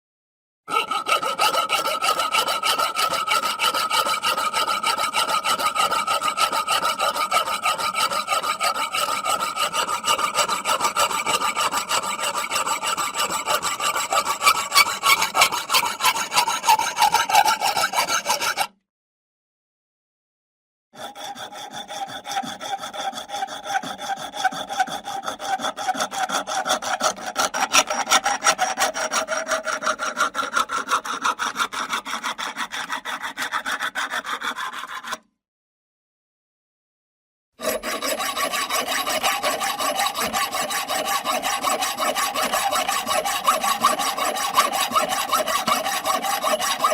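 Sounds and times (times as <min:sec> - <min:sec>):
saw cutting wood with ringing: 0:00.7 - 0:18.7, 0:21.0 - 0:35.2, 0:37.6 - 0:46.9.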